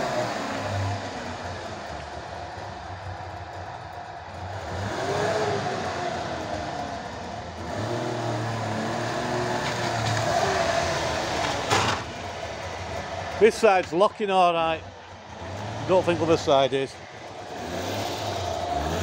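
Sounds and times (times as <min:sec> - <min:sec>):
two-stroke car engine revving: 0:00.0 - 0:19.0.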